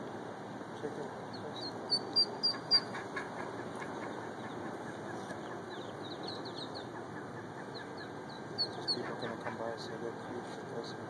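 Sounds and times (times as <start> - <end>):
steady background hiss: 0.0 - 11.0
ducklings peeping: 1.2 - 11.0.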